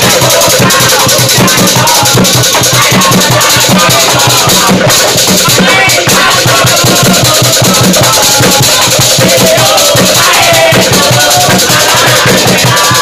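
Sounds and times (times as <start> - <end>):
fast loud percussion: 0.0 - 13.0
group chanting: 0.0 - 13.0.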